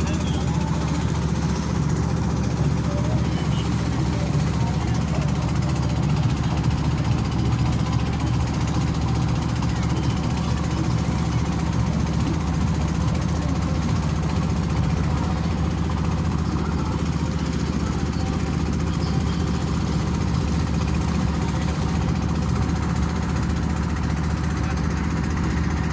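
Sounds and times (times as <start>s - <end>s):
motor boat engine running: 0.0s - 25.9s.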